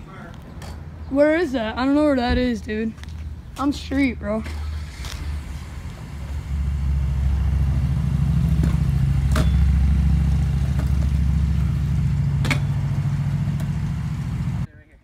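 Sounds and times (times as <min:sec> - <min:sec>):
low engine rumble: 0:00.0 - 0:14.7.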